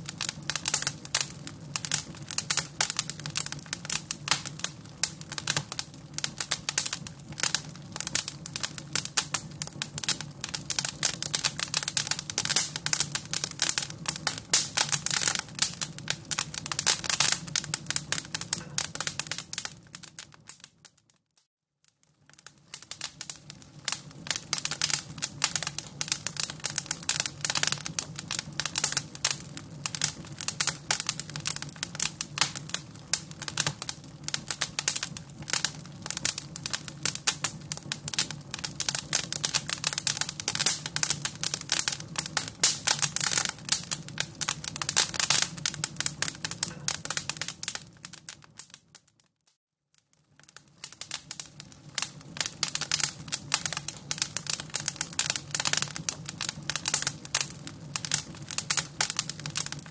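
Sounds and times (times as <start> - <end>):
fire crackling: 0.0 - 21.2, 21.8 - 49.2, 49.9 - 59.9.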